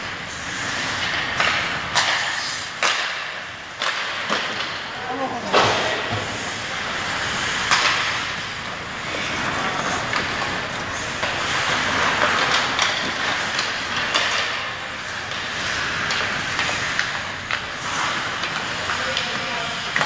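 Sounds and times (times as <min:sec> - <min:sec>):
hockey sticks and puck clacking: 0:00.0 - 0:20.0
skate blades scraping ice: 0:00.0 - 0:20.0.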